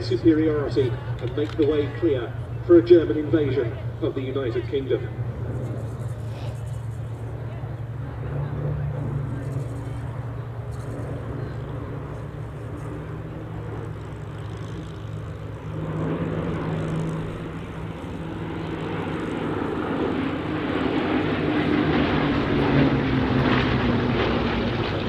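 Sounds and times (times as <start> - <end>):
propeller aircraft engine: 0.0 - 25.0.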